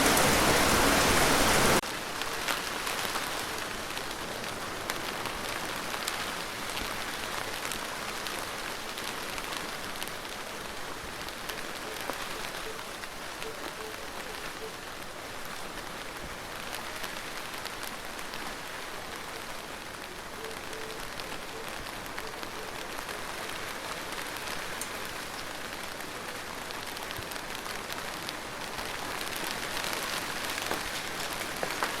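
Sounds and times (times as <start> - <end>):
rain drops pattering: 0.0 - 32.0.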